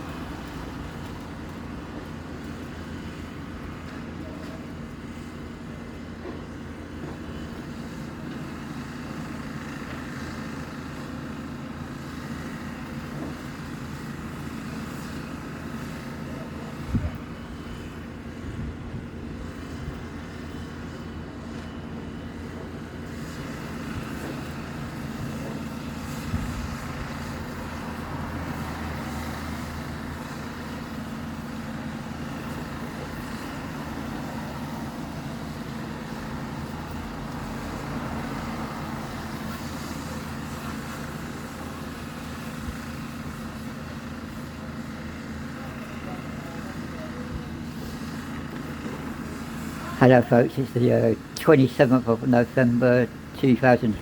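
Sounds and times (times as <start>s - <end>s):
heavy diesel machinery droning: 0.0s - 54.0s.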